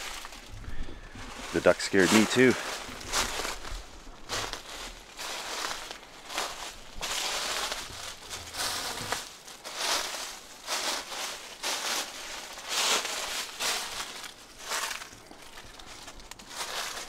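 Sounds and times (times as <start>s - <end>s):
footsteps on dry leaves: 0.0s - 17.0s.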